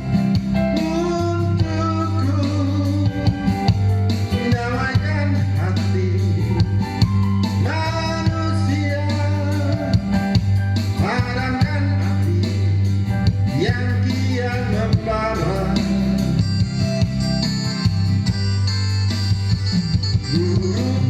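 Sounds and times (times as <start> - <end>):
pop song with guitar and bass: 0.0 - 21.0.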